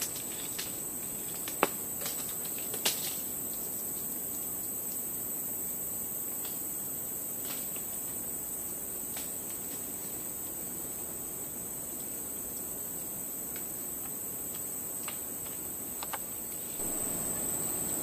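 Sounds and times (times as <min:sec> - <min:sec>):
shrill insect chorus: 0:02.2 - 0:18.0.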